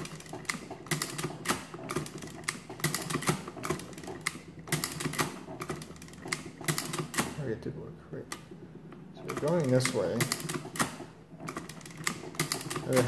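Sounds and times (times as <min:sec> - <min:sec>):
adding machine clattering: 0:00.0 - 0:07.6, 0:09.2 - 0:13.0.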